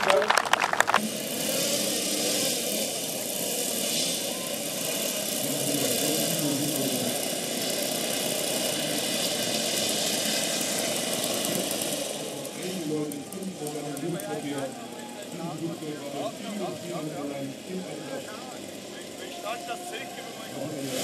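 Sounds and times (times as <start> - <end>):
model airplane engines humming: 0.0 - 21.0.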